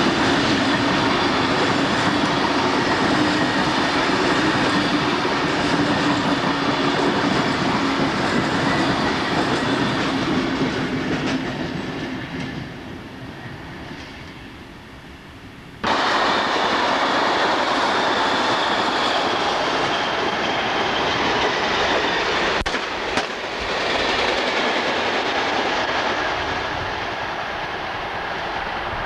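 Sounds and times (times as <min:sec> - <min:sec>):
train wheels rushing on rail: 0:00.0 - 0:29.0.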